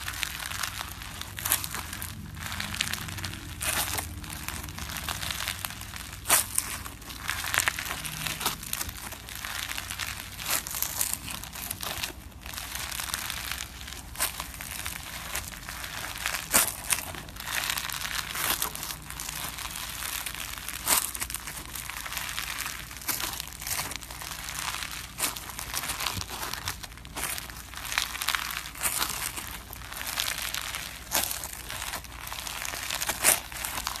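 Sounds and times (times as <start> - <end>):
beaded slime crackling and popping: 0.0 - 34.0.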